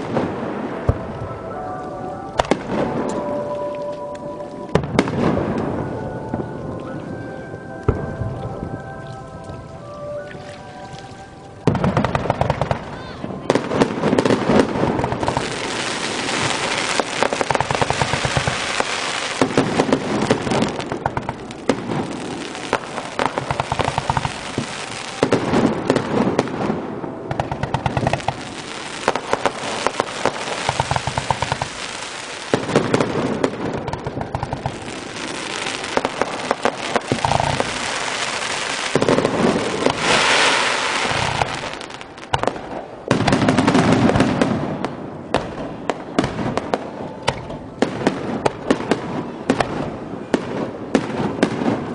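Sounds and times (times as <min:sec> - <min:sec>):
firework crackling: 0:00.0 - 0:51.9.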